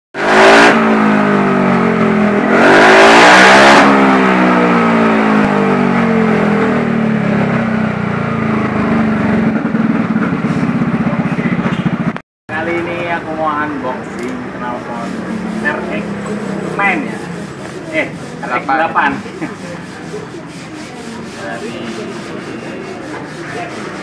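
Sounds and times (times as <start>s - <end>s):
scooter engine revving and idling: 0.2s - 24.0s.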